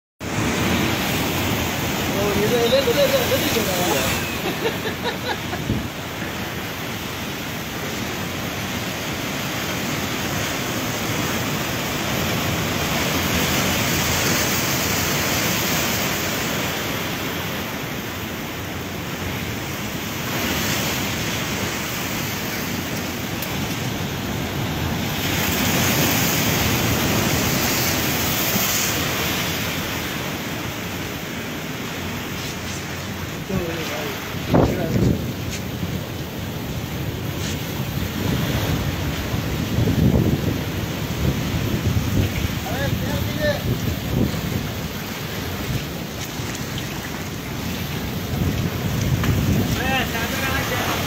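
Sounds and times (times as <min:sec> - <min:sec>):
heavy surf waves breaking: 0:00.2 - 0:51.0
seawater rushing over ground: 0:00.2 - 0:51.0.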